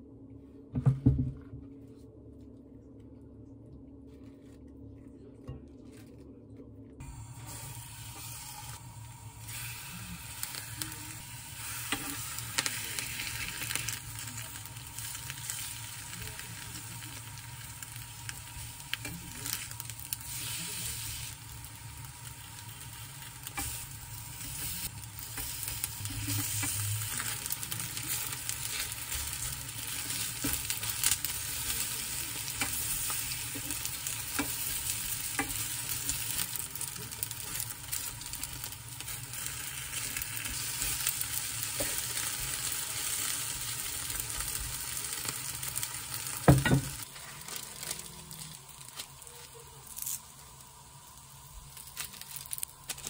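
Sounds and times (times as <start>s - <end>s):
battered leaves frying in oil: 7.0s - 53.0s.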